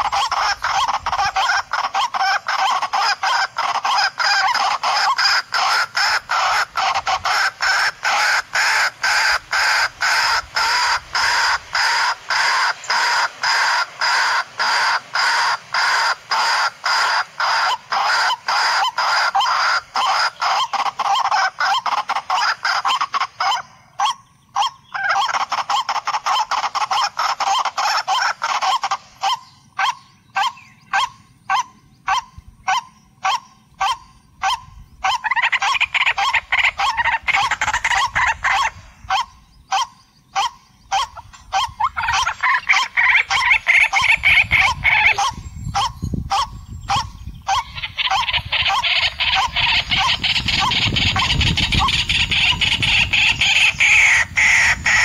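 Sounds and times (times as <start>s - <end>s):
waterhen honking calls: 0.0s - 55.0s.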